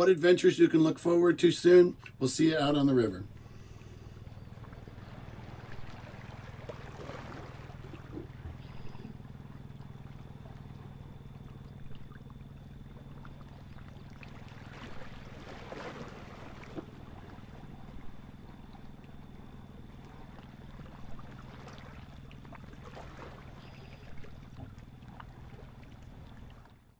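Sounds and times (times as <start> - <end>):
boat motor humming: 0.0 - 26.9
water splashing along hull: 0.0 - 26.9.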